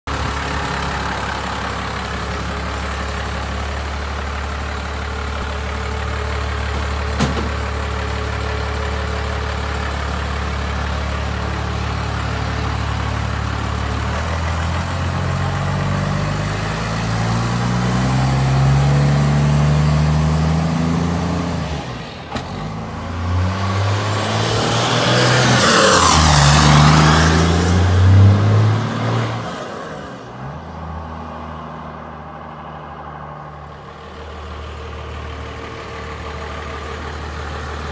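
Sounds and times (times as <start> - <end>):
diesel truck engine accelerating: 0.1 - 37.9.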